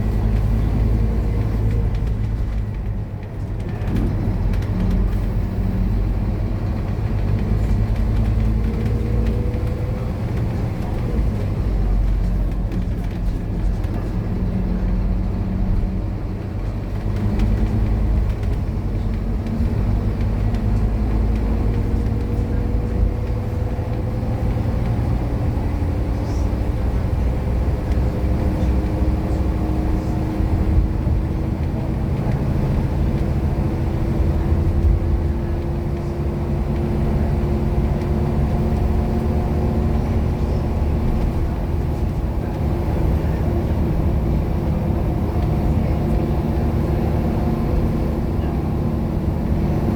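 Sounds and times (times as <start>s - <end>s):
bus diesel engine rumbling: 0.0s - 49.9s.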